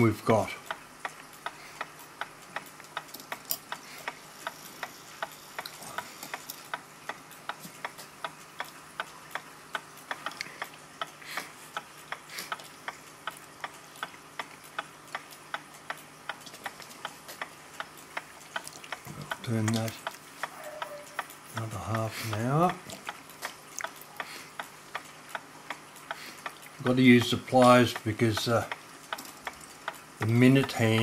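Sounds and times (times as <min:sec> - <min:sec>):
pendulum clock ticking: 0:00.0 - 0:31.0
clock wheelwork clicking and rubbing: 0:00.6 - 0:31.0.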